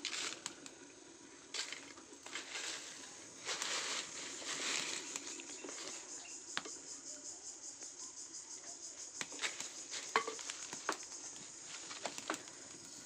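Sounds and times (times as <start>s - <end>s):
dry leaves crackling in fire: 0.0s - 6.7s, 9.2s - 13.0s
high-pitched hiss: 0.0s - 13.0s.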